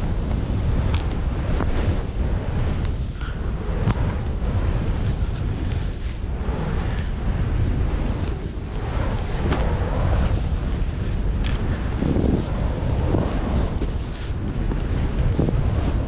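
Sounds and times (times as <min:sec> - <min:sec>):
wind buffeting microphone: 0:00.0 - 0:16.0
skis hissing through snow: 0:00.1 - 0:16.0.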